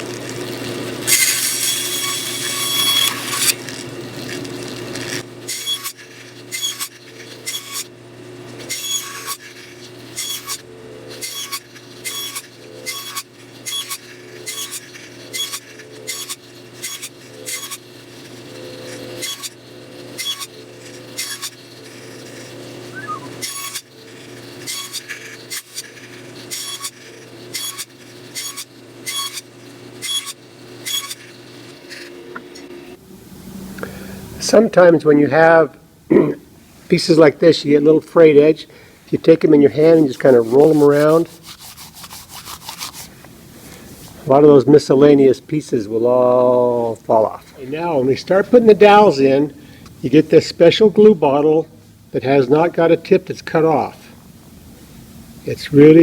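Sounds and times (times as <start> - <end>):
power saw cutting wood: 0.0 - 33.0, 36.9 - 51.6.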